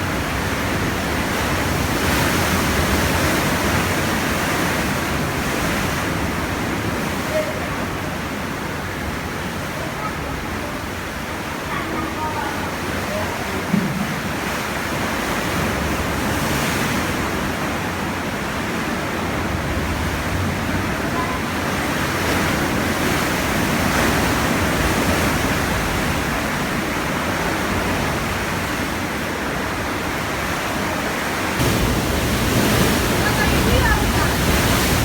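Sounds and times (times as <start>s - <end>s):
waves breaking against rock: 0.0s - 35.0s.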